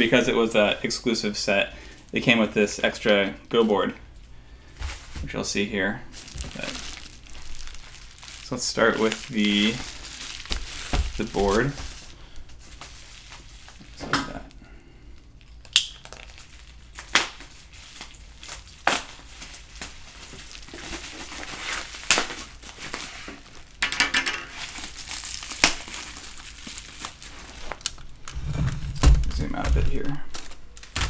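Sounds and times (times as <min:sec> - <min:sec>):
bubble wrap crinkling: 0:04.7 - 0:31.0.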